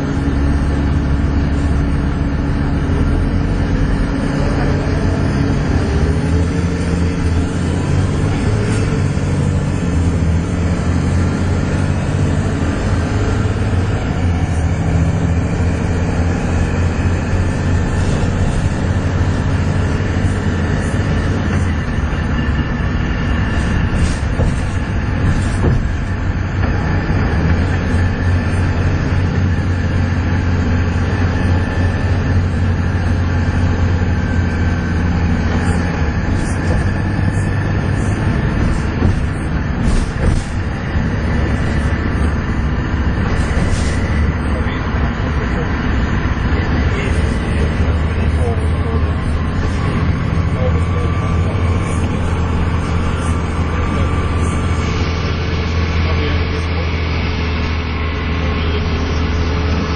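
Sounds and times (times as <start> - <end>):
bus engine under load: 0.0 - 59.9
engine whining: 0.0 - 59.9.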